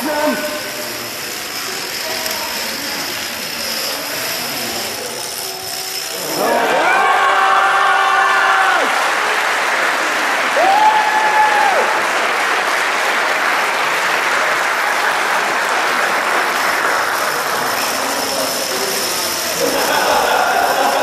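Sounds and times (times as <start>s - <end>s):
crowd applauding: 3.8s - 21.0s.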